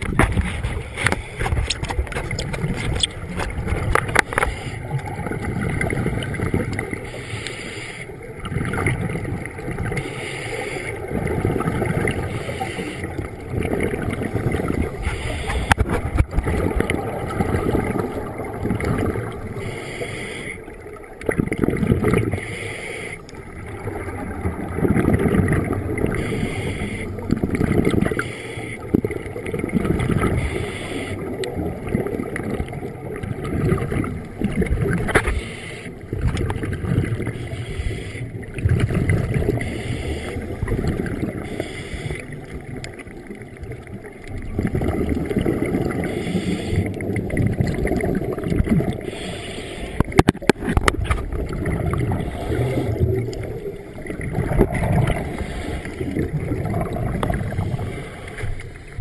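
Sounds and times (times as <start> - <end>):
regulator exhaled bubbles rumbling: 0.0 - 7.0, 8.3 - 10.1, 10.9 - 19.7, 21.2 - 22.4, 23.4 - 28.2, 28.8 - 59.0.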